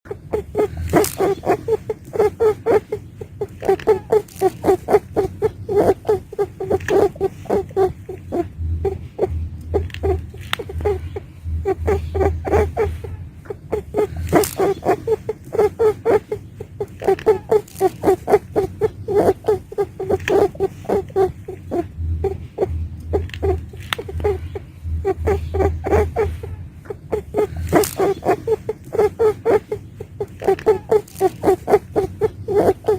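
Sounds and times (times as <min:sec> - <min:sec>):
rabbit squeaky calls: 0:00.1 - 0:32.9.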